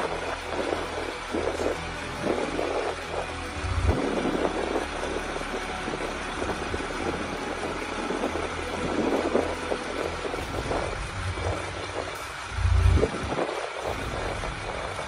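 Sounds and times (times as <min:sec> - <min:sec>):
diesel truck engines rumbling: 0:00.0 - 0:15.0.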